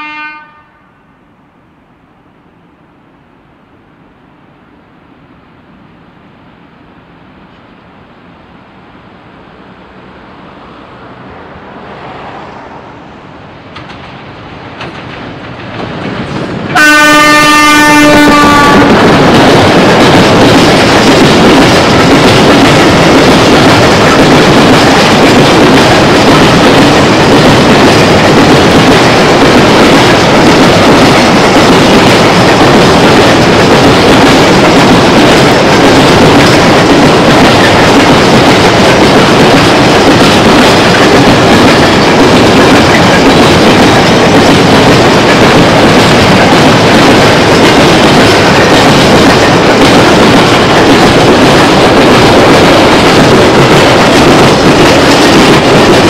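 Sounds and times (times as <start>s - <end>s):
freight train wheels on rails: 1.6s - 56.0s.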